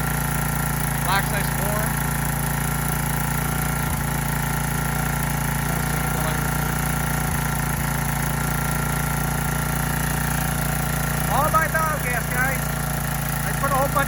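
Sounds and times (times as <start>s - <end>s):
small generator engine running: 0.0s - 14.0s.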